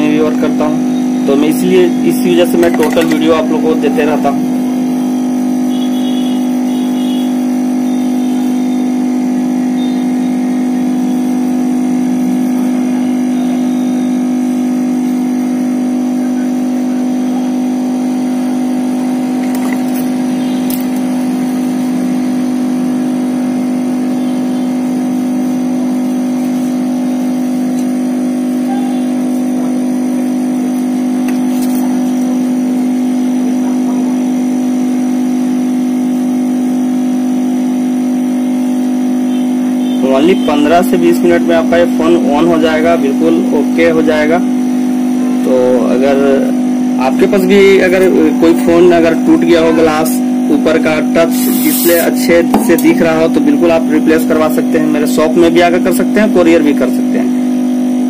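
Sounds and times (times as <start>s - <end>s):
loud machine hum: 0.0s - 58.0s.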